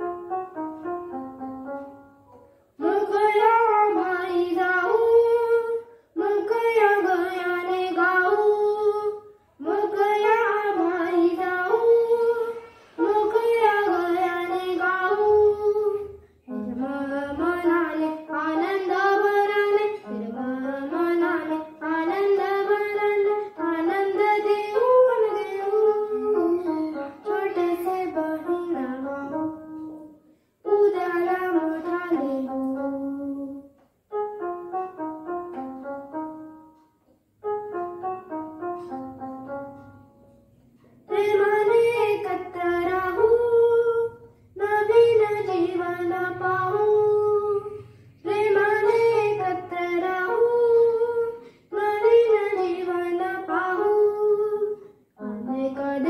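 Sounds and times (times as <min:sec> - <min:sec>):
electronic keyboard: 0:00.0 - 0:56.0
boy singing: 0:02.8 - 0:33.7, 0:41.1 - 0:56.0.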